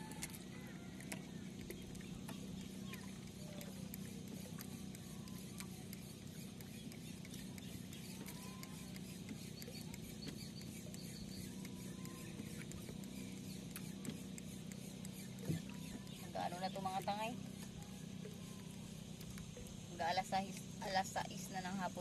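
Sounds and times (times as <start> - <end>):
fishing reel whirring: 0.0 - 22.0.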